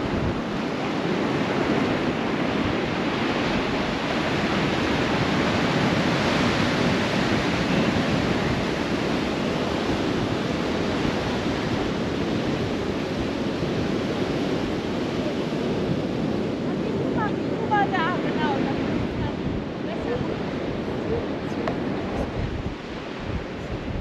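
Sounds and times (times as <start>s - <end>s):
surf on beach: 0.0s - 24.0s
wind on microphone: 0.0s - 24.0s.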